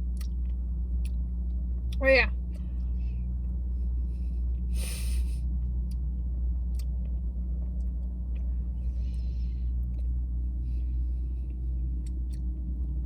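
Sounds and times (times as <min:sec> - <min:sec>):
low rumble in car cabin: 0:00.0 - 0:13.0.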